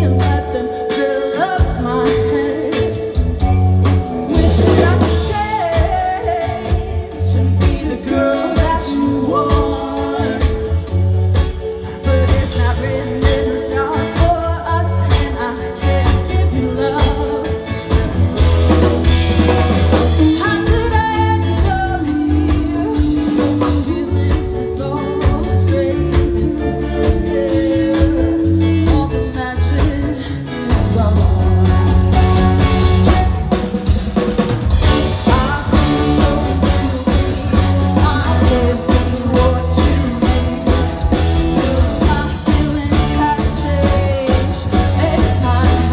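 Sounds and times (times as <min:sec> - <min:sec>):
woman singing: 0:00.0 - 0:18.6, 0:20.2 - 0:34.0, 0:34.8 - 0:45.9
live rock band: 0:00.0 - 0:45.9.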